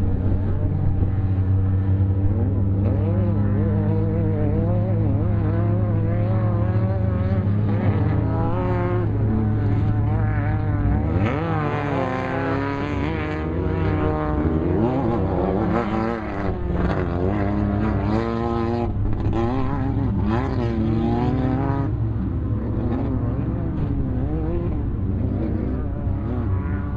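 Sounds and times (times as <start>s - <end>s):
low engine drone: 0.0s - 26.9s
race vehicle engines revving past: 0.0s - 26.9s.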